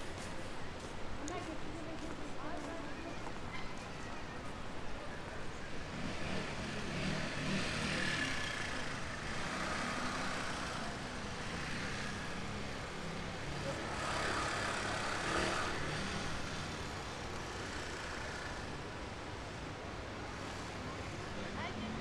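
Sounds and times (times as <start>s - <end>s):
city background hum: 0.0s - 22.0s
traffic passing: 0.0s - 22.0s.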